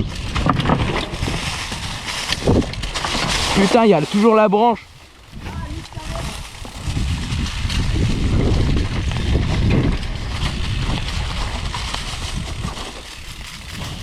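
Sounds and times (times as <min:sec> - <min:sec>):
bike rumbling over rough dirt: 0:00.0 - 0:14.0
wind buffeting microphone: 0:00.0 - 0:14.0.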